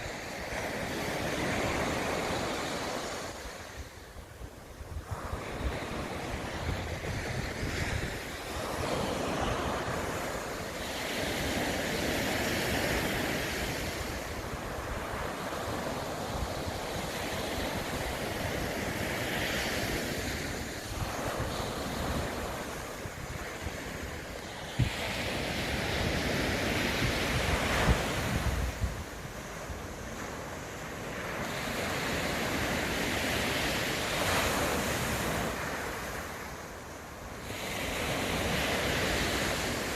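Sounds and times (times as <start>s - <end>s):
wind buffeting microphone: 0.0s - 36.2s
sea waves breaking on shore: 0.0s - 39.9s.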